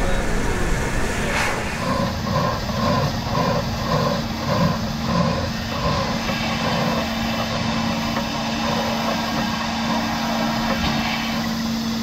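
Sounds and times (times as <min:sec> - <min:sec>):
steady hum: 0:00.0 - 0:12.0
steam locomotive rumbling: 0:00.0 - 0:12.0.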